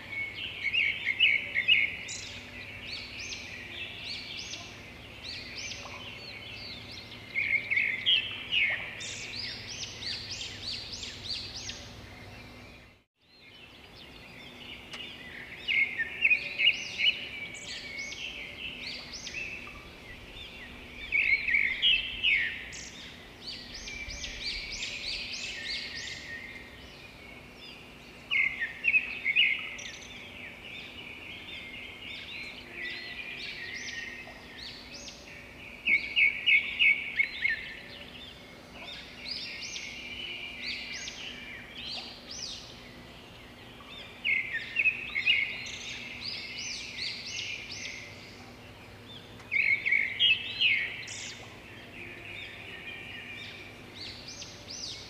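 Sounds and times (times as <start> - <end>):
faint steady hum: 0.0 - 55.0
small birds chirping: 0.0 - 55.0.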